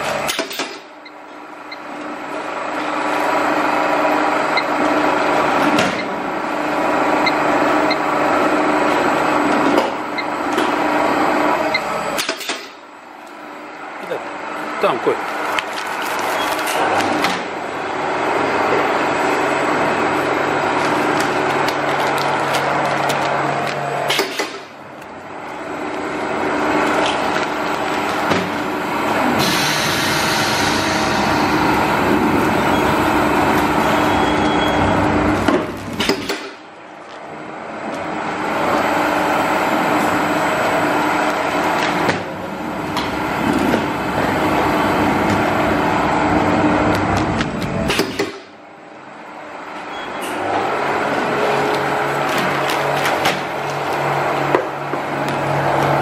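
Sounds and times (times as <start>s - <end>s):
slicing machine hum and whir: 0.0s - 56.0s.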